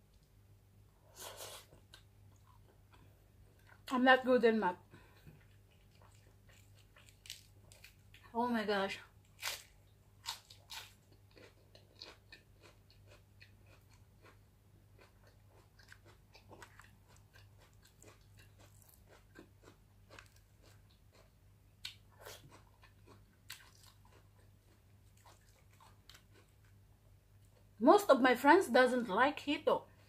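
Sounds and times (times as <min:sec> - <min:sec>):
person chewing food: 0:01.1 - 0:03.9, 0:05.0 - 0:08.2, 0:09.2 - 0:27.7.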